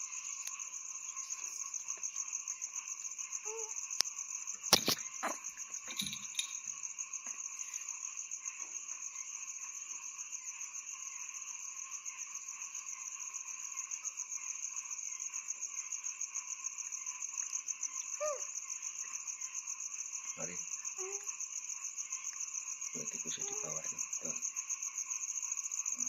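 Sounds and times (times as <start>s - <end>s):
crickets trilling: 0.0s - 26.0s
low insect or frog calls: 0.0s - 26.0s.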